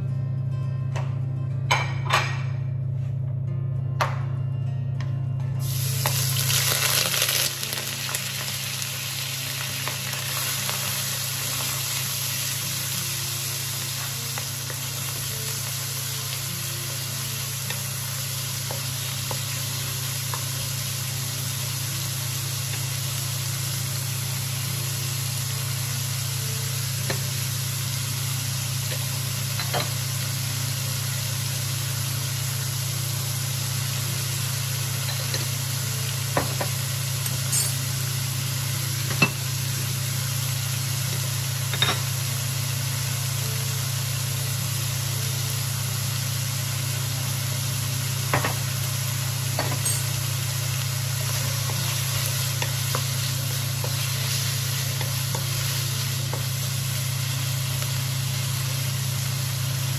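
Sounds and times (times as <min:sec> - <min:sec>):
pork sizzling in hot oil: 0:05.6 - 0:59.9.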